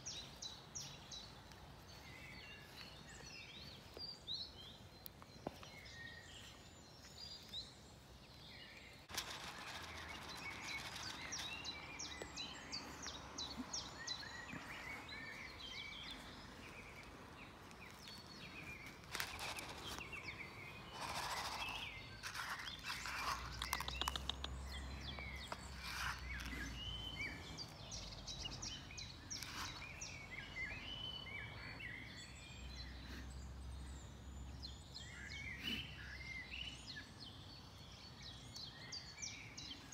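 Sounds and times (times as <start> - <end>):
outdoor noise haze: 0.0 - 39.9
small birds chirping: 0.0 - 39.9.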